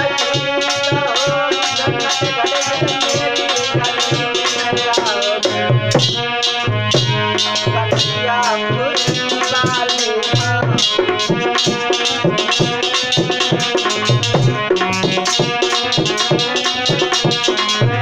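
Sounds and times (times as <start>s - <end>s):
hand drum beat: 0.0s - 18.0s
sustained melody: 1.6s - 18.0s.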